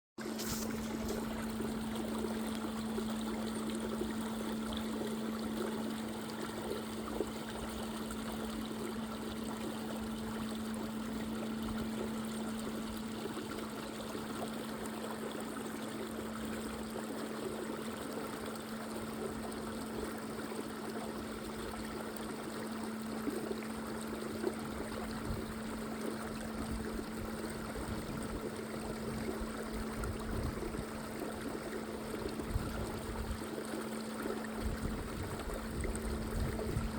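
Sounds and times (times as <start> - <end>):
steady low hum: 0.2 - 36.9
water running and trickling: 0.3 - 36.9.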